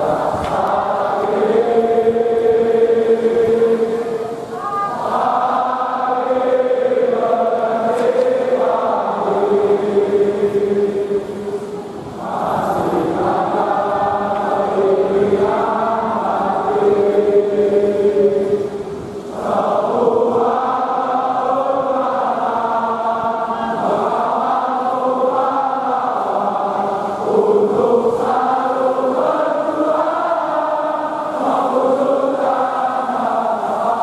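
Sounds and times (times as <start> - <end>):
crowd singing a chant: 0.0 - 34.0.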